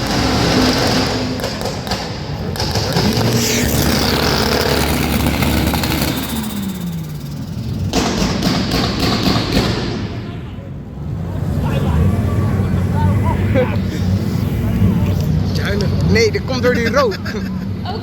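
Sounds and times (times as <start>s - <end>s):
car engine revving: 0.0s - 17.8s
exhaust crackles: 0.0s - 17.8s.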